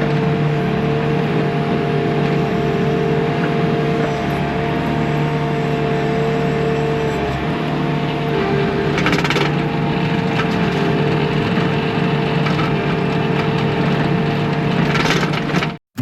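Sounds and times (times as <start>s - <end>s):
rasping engine surges: 0.0s - 13.8s
diesel engine running under work: 0.0s - 16.0s.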